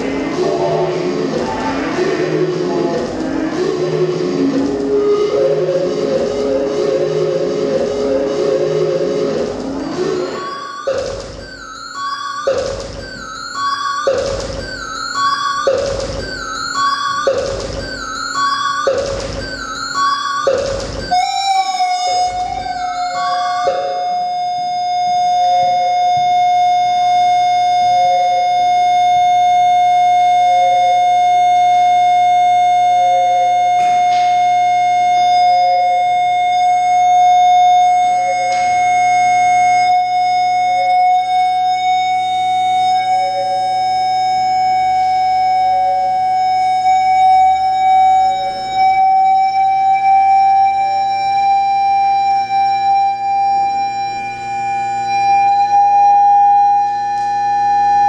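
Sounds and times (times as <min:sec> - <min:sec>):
siren-like rising drone: 0:00.0 - 0:58.0.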